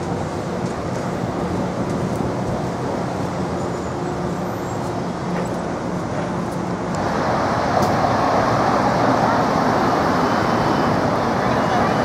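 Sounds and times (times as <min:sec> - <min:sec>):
bus engine hum: 0:00.0 - 0:12.0
vehicles driving past: 0:00.0 - 0:12.0.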